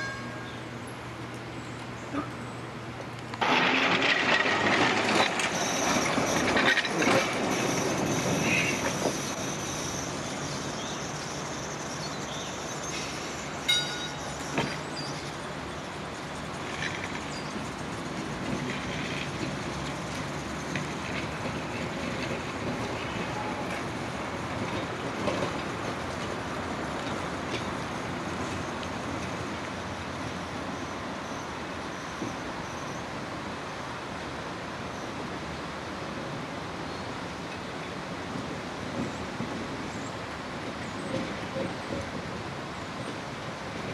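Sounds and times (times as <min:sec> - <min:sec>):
streetcar wheels rumbling on rail: 0:00.0 - 0:43.9.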